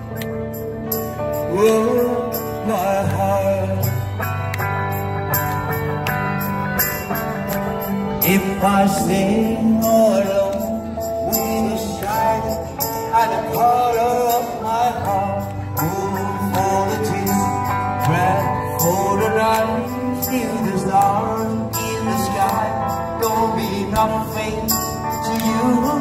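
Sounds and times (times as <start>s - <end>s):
electric guitar: 0.0s - 26.0s
man singing into microphone: 1.3s - 4.5s, 8.2s - 26.0s.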